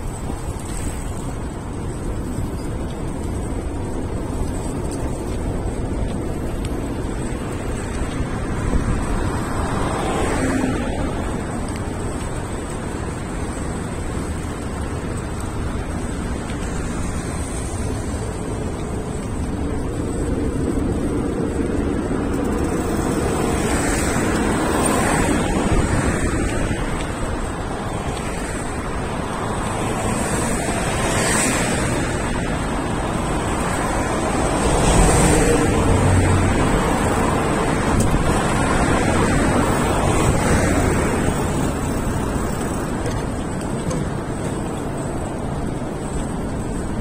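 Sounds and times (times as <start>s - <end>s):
road traffic: 0.0s - 47.0s.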